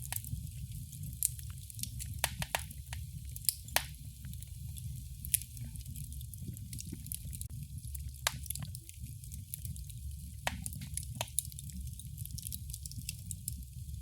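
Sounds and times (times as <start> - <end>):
fire popping and snapping: 0.0 - 14.0
low rumble and hiss of burning: 0.0 - 14.0.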